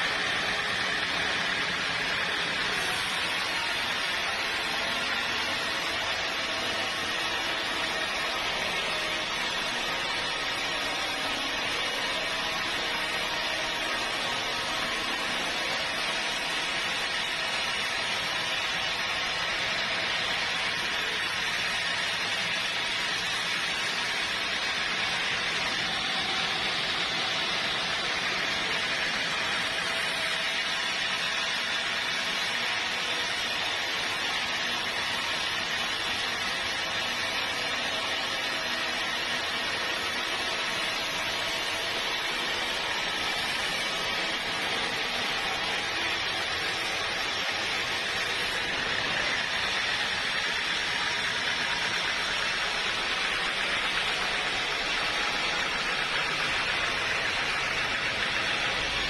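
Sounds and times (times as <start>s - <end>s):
machine noise with hiss: 0.0s - 59.0s.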